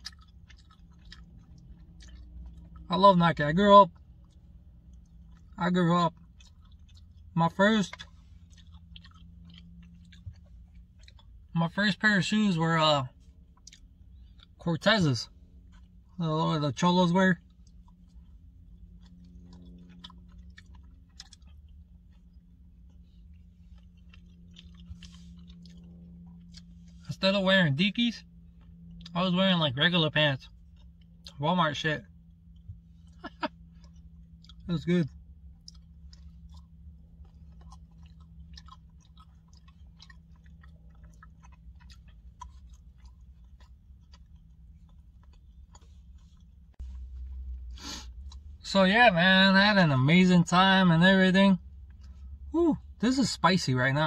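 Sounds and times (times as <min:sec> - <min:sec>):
man chewing food: 0:00.0 - 0:11.7, 0:13.0 - 0:16.2, 0:17.3 - 0:29.2, 0:30.4 - 0:31.4, 0:32.0 - 0:48.7, 0:51.6 - 0:53.4
faint low hum: 0:00.0 - 0:54.0.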